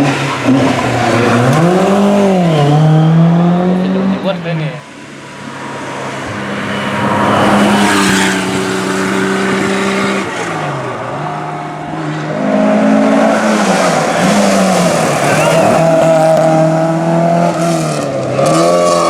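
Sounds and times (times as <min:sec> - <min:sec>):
rally car engine at high revs: 0:00.0 - 0:04.7, 0:05.4 - 0:19.0.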